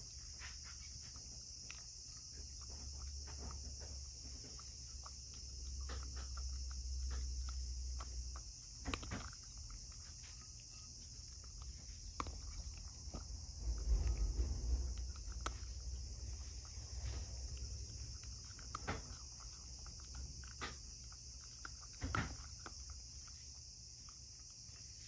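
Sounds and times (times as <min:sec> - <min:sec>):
cat chewing food: 0:00.0 - 0:25.0.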